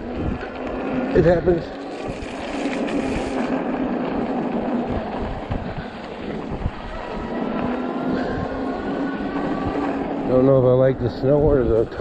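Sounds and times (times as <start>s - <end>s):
fat tyres rolling through slush: 0.0s - 12.0s
wind buffeting microphone: 0.0s - 12.0s.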